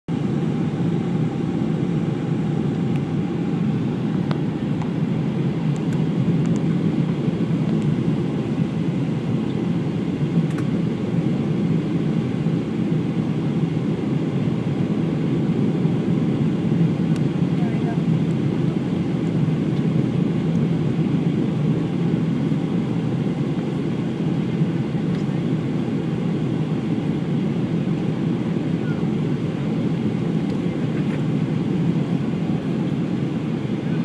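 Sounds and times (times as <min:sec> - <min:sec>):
airplane cabin engine roar: 0:00.1 - 0:34.0
faint steady hum: 0:00.1 - 0:34.0.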